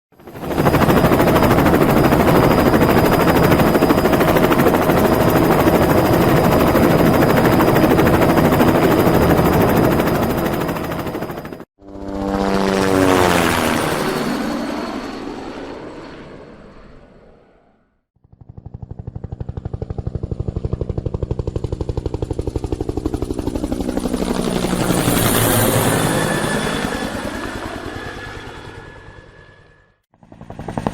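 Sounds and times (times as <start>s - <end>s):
helicopter rotor chopping: 0.2s - 17.6s, 18.3s - 30.9s
helicopter passing by: 0.2s - 30.9s.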